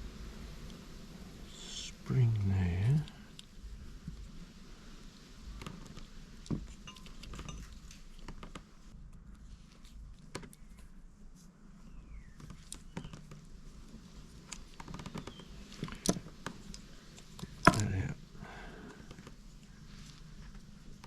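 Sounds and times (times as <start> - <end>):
low steady background hum: 0.0 - 21.0.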